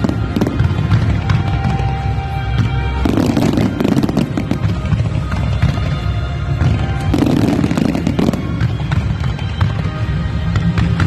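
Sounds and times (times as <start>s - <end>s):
fireworks bangs: 0.0s - 11.0s
fireworks crackling: 0.0s - 11.0s
music playing: 0.0s - 11.0s.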